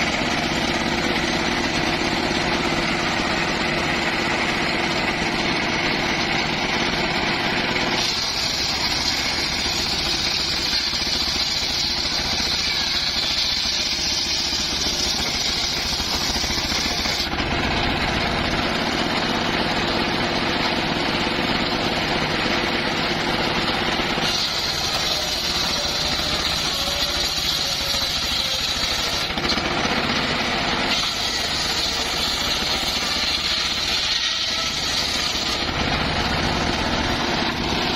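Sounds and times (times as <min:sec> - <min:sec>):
circular sawmill running: 0:00.0 - 0:37.9
saw blade whine: 0:00.0 - 0:37.9.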